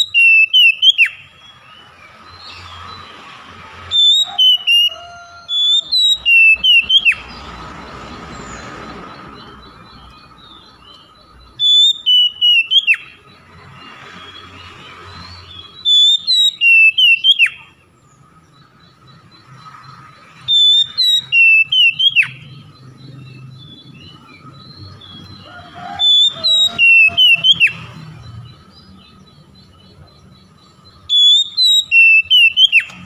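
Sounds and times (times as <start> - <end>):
bird whistling song: 0.0 - 33.0.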